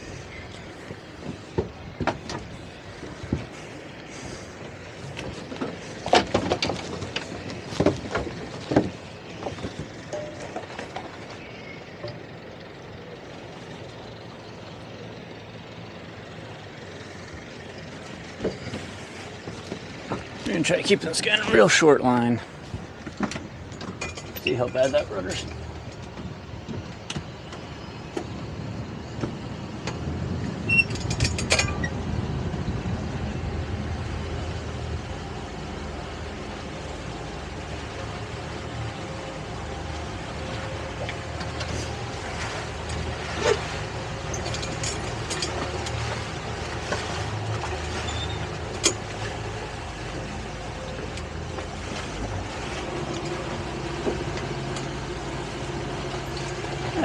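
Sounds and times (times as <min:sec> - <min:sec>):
boat engine running: 0:00.0 - 0:57.0
water and hull noise: 0:00.0 - 0:57.0.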